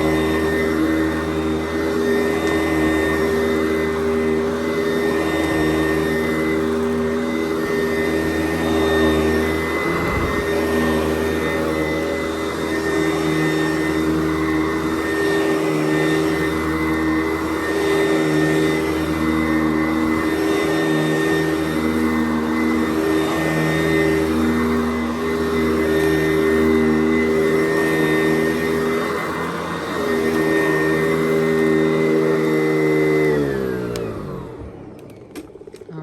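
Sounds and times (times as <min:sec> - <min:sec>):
vacuum cleaner on carpet: 0:00.0 - 0:36.0.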